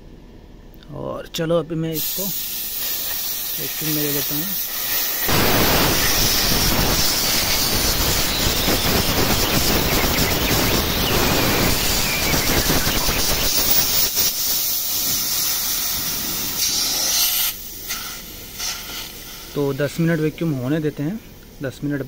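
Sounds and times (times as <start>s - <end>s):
gas hissing out of hoses: 2.0s - 22.0s.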